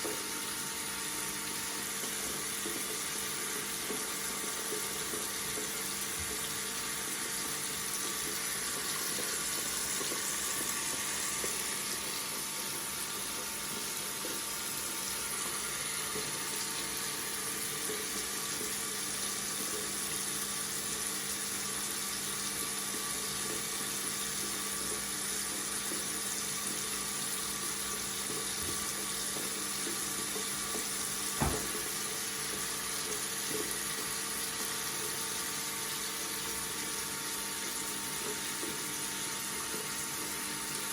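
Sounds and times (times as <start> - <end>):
tap water running into sink: 0.0 - 40.9.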